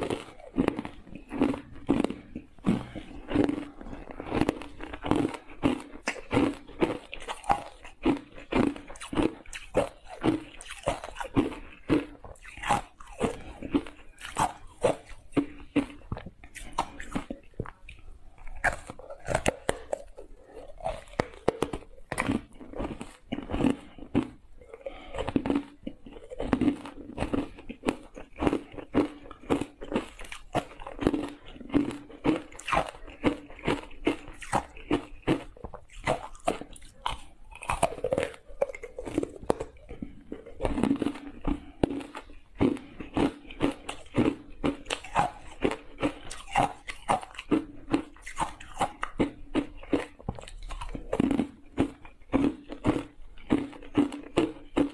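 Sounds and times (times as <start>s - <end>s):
ice cubes crunching while chewed: 0.0s - 54.9s.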